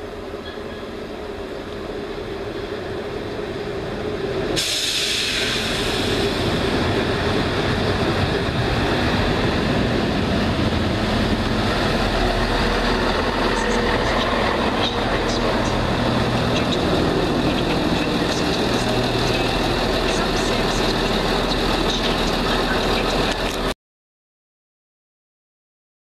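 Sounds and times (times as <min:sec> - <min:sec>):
diesel train engines and wheels: 0:00.0 - 0:23.8.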